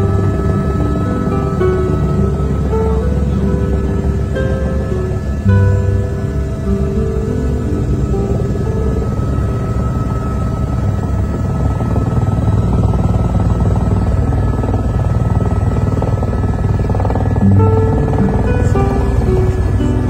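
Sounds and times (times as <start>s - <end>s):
background music: 0.0s - 20.0s
helicopter rotor chop: 0.0s - 20.0s.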